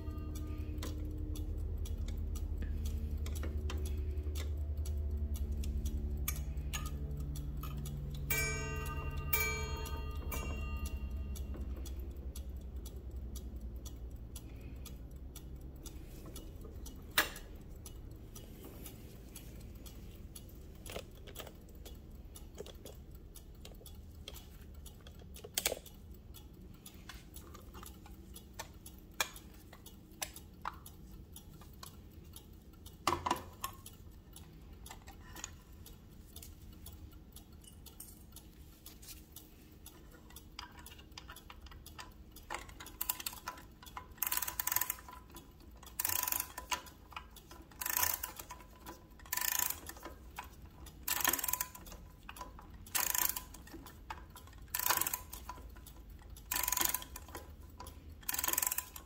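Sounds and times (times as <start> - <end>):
key winding clock spring: 0.0 - 59.0.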